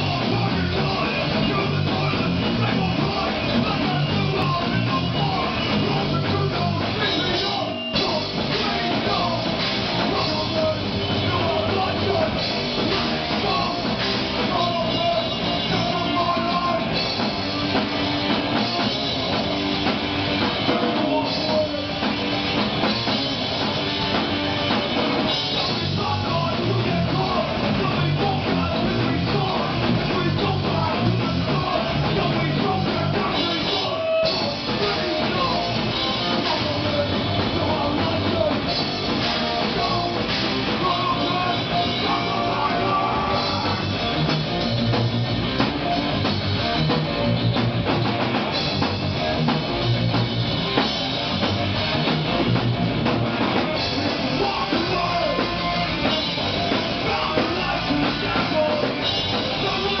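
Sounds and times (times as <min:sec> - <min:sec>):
drum kit: 0:00.0 - 1:00.0
electric guitar: 0:00.0 - 1:00.0.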